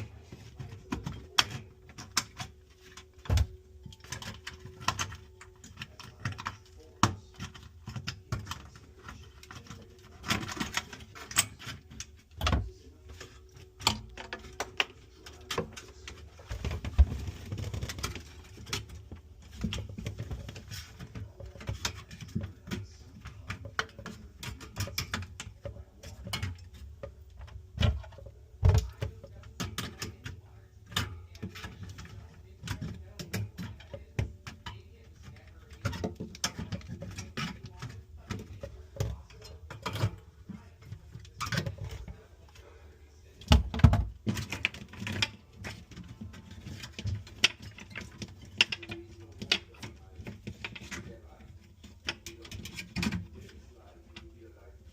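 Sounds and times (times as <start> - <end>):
clicks and rattles of tools: 0.0 - 42.6, 43.4 - 54.9.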